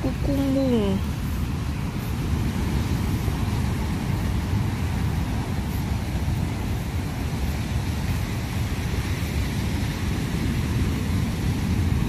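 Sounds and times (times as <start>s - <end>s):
surf breaking on rocks: 0.0s - 12.0s
wind buffeting microphone: 0.0s - 12.0s.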